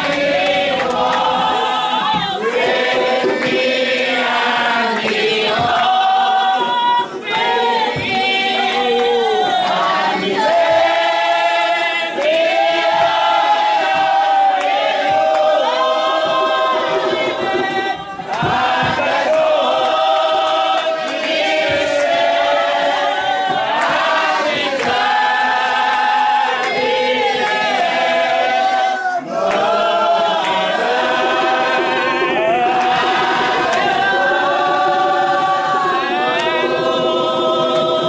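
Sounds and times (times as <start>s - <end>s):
congregation singing in chorus: 0.0s - 38.0s.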